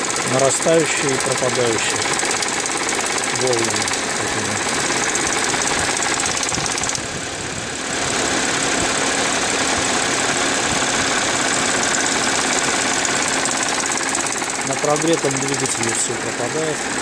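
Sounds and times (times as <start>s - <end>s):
car engine running: 0.0s - 17.0s
wavering engine noise: 0.0s - 17.0s.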